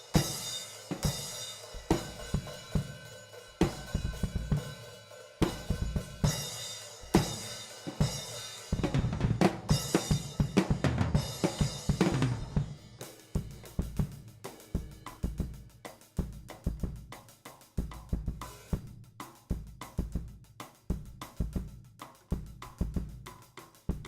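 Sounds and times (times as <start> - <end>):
drum kit playing: 0.0 - 24.0.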